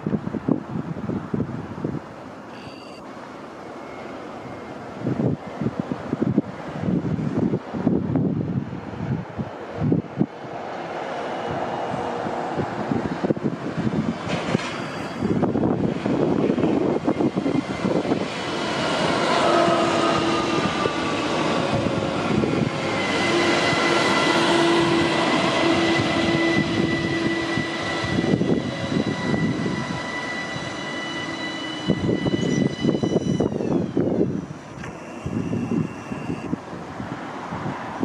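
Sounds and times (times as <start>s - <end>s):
electric train drive whine: 0.1s - 9.1s, 11.2s - 37.2s
train wheels rumbling: 3.1s - 34.8s.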